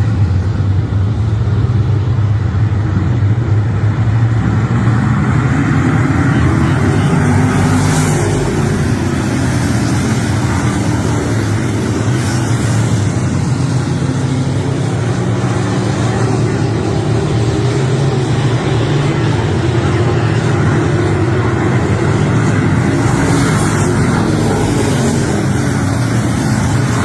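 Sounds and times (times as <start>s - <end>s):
race car engine running: 0.0s - 27.0s.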